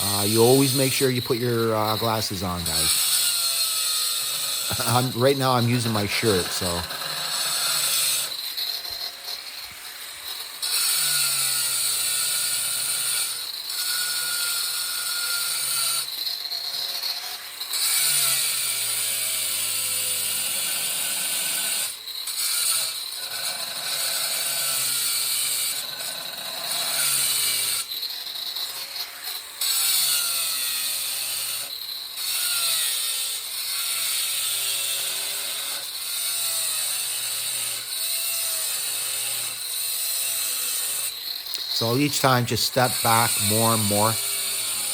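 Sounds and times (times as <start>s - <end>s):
angle grinder cutting stone: 0.0s - 44.9s.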